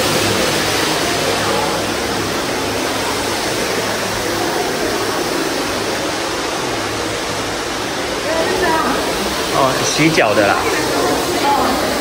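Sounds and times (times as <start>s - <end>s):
indoor waterfall rushing: 0.0s - 12.0s.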